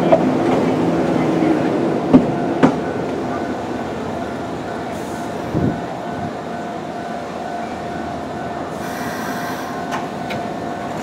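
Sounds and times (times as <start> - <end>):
train equipment whine: 0.0 - 11.0.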